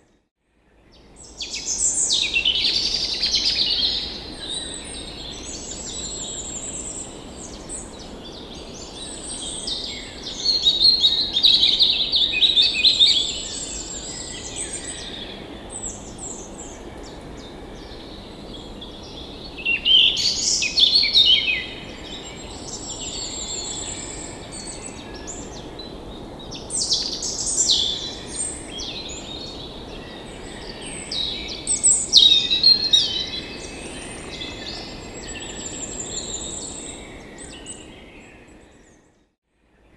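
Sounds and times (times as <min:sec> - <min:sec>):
songbirds singing: 0:00.9 - 0:39.1.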